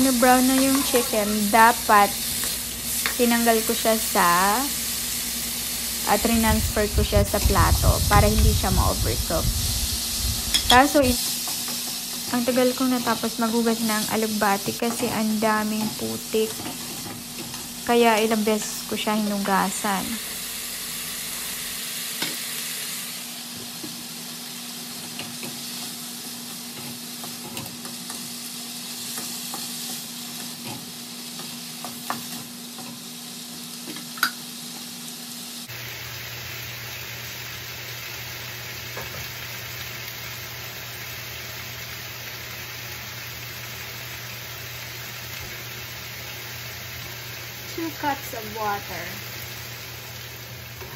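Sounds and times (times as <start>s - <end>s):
food sizzling in oil: 0.0s - 50.9s.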